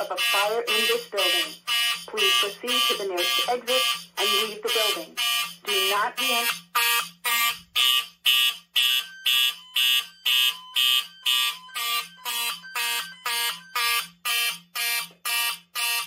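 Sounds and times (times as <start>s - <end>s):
pulsing fire alarm horn: 0.0s - 16.0s.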